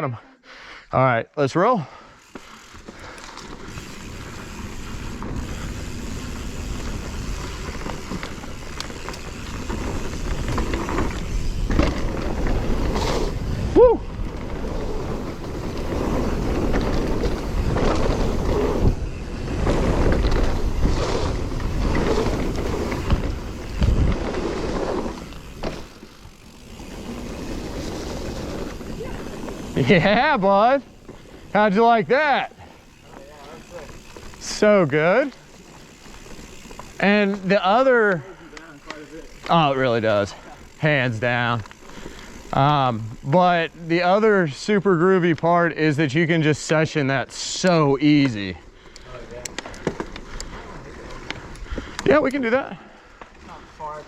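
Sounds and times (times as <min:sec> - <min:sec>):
tyres on dirt: 0:02.2 - 0:46.6, 0:47.3 - 0:54.0
bike rattling over bumps: 0:02.2 - 0:46.7, 0:47.3 - 0:54.0.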